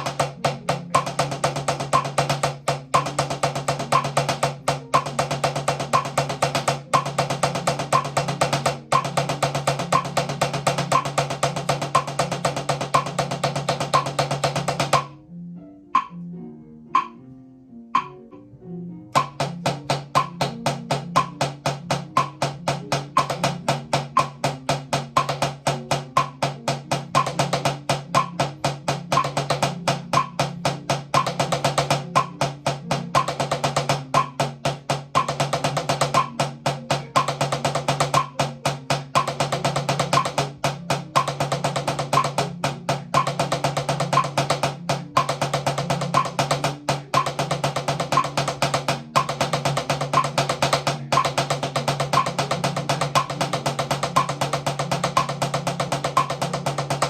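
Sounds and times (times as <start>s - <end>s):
drum single strokes: 0.0s - 15.2s, 16.0s - 16.2s, 17.0s - 17.2s, 18.0s - 18.2s, 19.1s - 57.0s
high metronome click: 0.0s - 15.2s, 15.9s - 16.3s, 16.9s - 17.3s, 17.9s - 18.3s, 19.1s - 57.0s.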